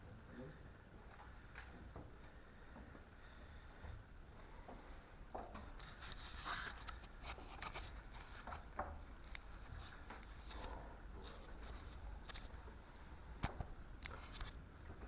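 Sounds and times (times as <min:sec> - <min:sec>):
small clicks and rustles: 0:00.2 - 0:15.0
quiet footsteps and scuffing: 0:01.0 - 0:15.0.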